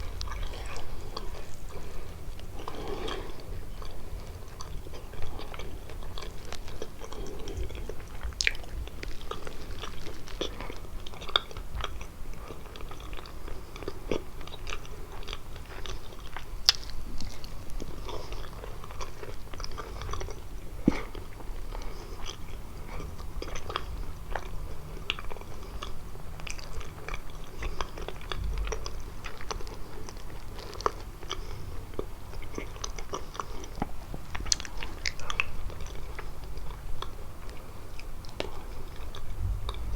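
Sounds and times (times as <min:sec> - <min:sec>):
chewing with wet mouth clicks: 0:00.0 - 0:39.9.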